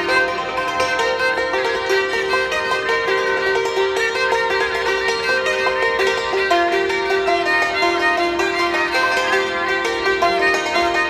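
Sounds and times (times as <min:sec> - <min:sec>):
bowed fiddle melody: 0:00.0 - 0:11.0
hammered dulcimer notes: 0:00.0 - 0:11.0.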